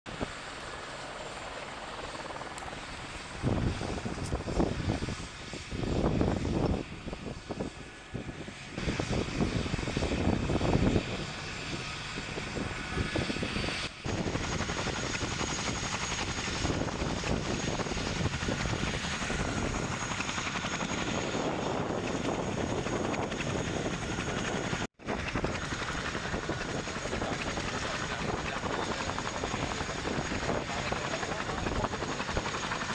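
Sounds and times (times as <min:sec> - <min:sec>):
helicopter engine and rotor: 0:00.1 - 0:32.9.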